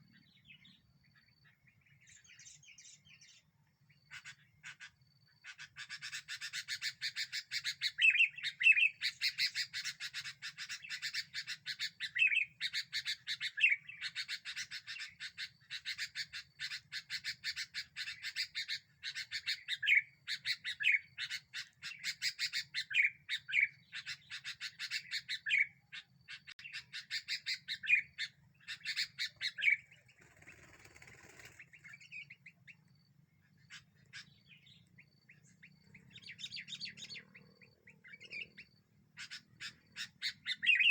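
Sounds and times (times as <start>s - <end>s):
bulbul chattering: 4.0s - 40.9s.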